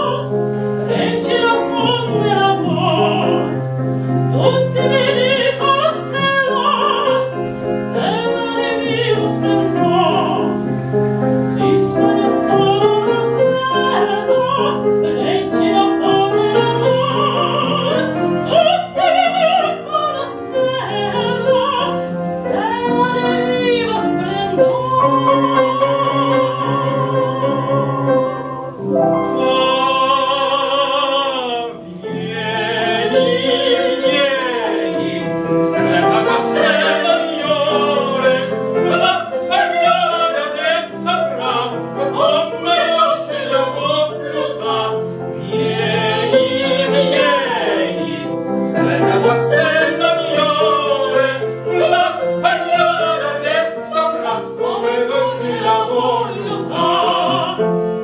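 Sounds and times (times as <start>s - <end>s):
operatic duet singing: 0.0s - 58.0s
piano accompaniment: 0.0s - 58.0s.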